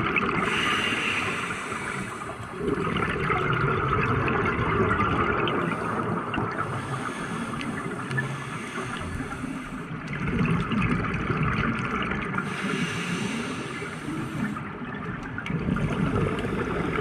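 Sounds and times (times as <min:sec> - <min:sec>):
regulator bubbling underwater: 0:00.0 - 0:17.0.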